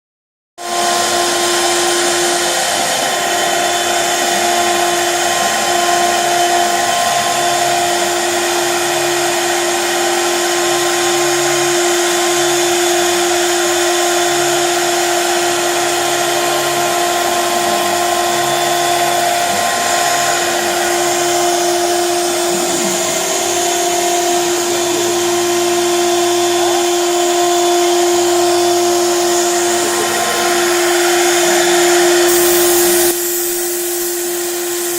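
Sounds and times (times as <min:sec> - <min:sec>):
stepper motors humming: 0:00.6 - 0:33.2
spindle motor whine: 0:00.6 - 0:34.9.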